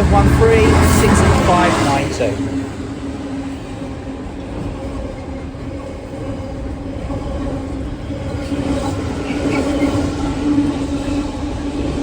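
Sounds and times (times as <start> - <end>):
diesel locomotives droning: 0.0 - 12.0.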